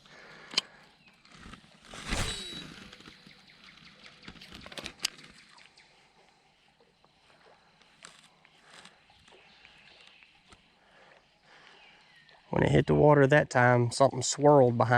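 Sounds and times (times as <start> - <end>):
faint outdoor ambience: 0.0 - 14.9.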